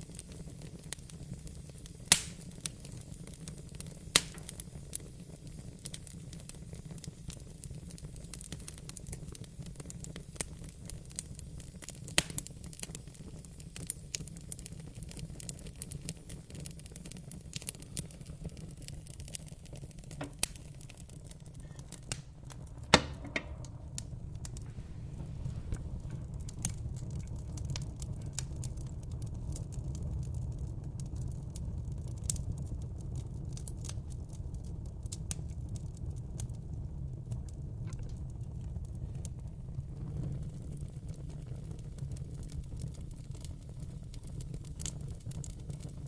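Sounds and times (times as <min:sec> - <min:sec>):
low rumble of flames: 0:00.0 - 0:46.0
wood fire snapping and popping: 0:00.0 - 0:46.0.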